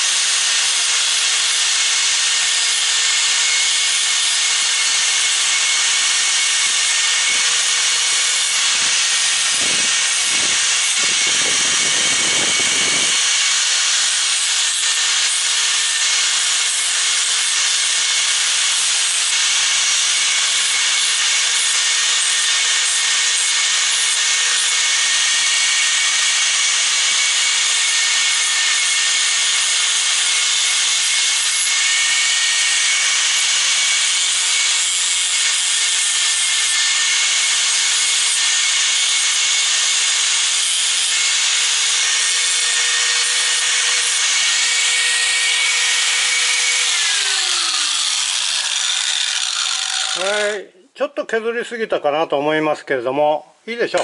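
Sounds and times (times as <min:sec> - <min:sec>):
grinder motor whine: 0:00.0 - 0:50.5
angle grinder grinding metal: 0:00.0 - 0:50.7.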